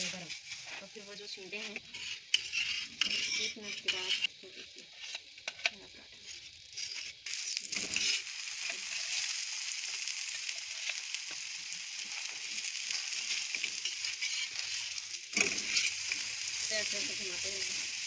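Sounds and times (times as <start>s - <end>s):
oil sizzling on a griddle: 0.0s - 18.0s.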